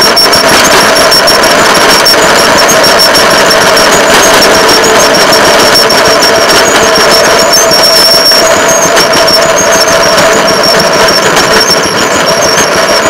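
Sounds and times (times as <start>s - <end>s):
rail motorcar engine running: 0.0s - 13.0s
short high squeaks: 0.0s - 13.0s.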